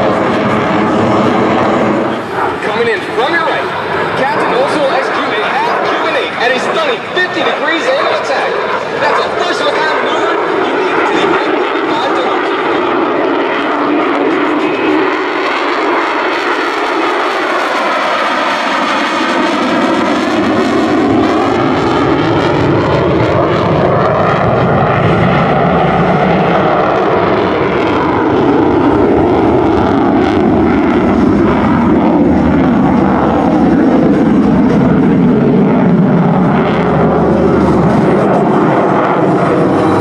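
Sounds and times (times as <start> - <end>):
jet engine roar: 0.0 - 40.0.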